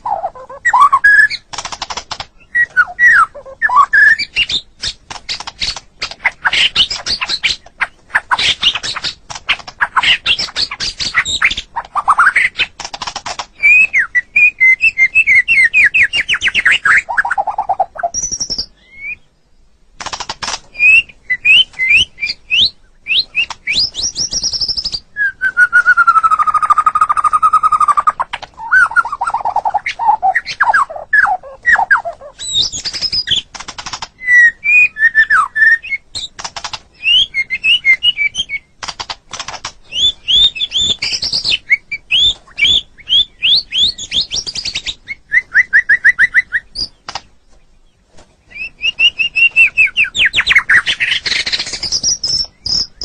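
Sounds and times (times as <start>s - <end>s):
bird singing chirps and trills: 0.0s - 12.8s, 13.5s - 19.7s, 20.7s - 38.8s, 39.4s - 53.0s.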